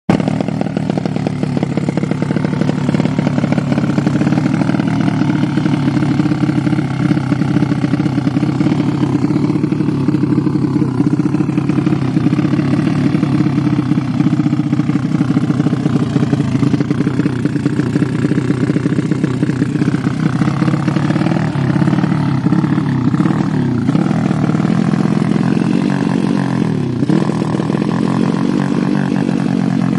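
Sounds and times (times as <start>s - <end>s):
motorcycle engine revving: 0.1s - 29.9s.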